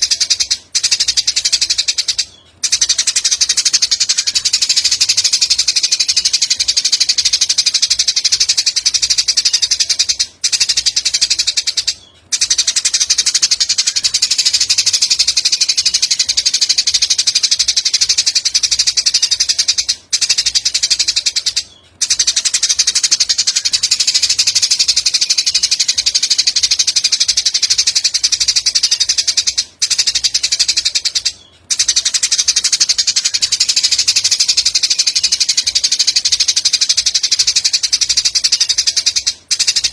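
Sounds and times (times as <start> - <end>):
rapid high-pitched bird trill: 0.0 - 39.9.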